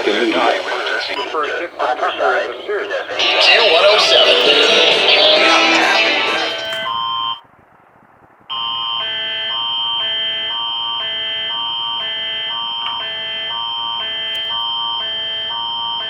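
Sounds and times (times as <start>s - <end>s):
harsh electronic alarm: 1.1s - 7.4s, 8.5s - 16.0s.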